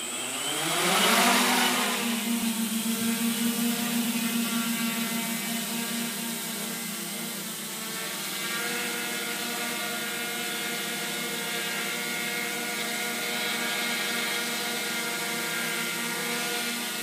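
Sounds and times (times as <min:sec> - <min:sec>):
drone motors and propellers humming: 0:00.0 - 0:17.0.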